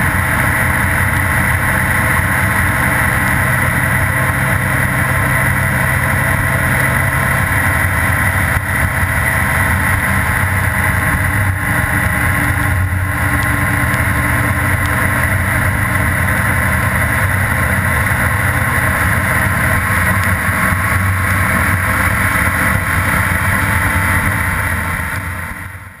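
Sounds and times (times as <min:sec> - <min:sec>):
motorcycle engine cruising: 0:00.0 - 0:26.0
wind and tyres on wet road: 0:00.0 - 0:26.0.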